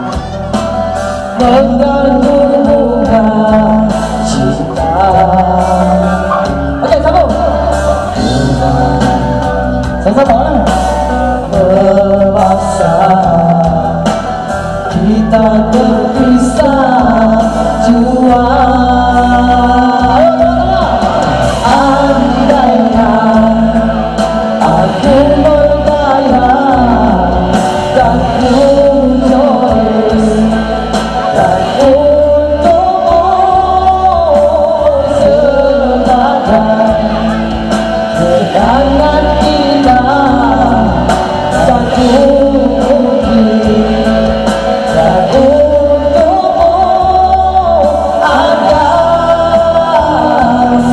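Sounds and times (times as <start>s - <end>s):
karaoke backing track through speakers: 0.0s - 50.9s
woman singing into a microphone: 0.0s - 50.9s.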